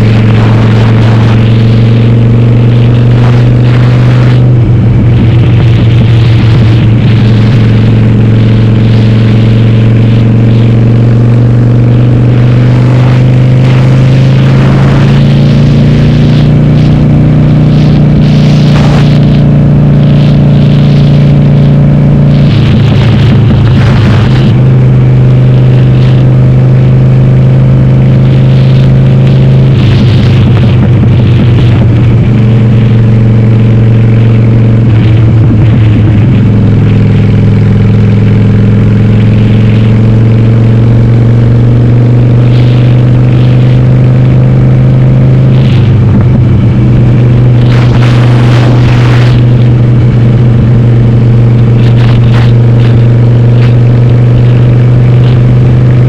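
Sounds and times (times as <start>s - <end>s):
loud motorcycle engine riding: 0.0s - 56.0s.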